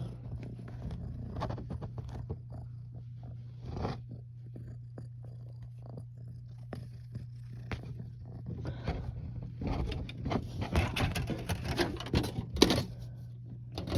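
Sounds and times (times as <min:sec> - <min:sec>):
cat purring: 0:00.0 - 0:13.9.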